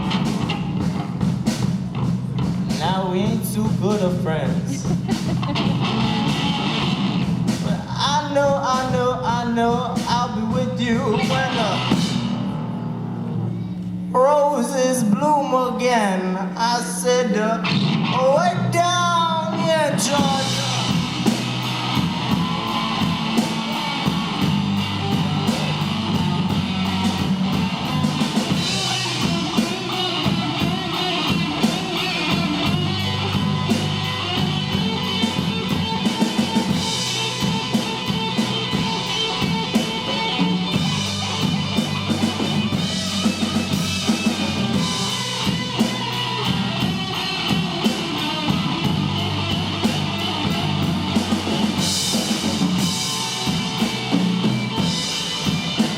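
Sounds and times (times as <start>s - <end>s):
live rock band playing: 0.0s - 14.1s, 16.5s - 55.9s.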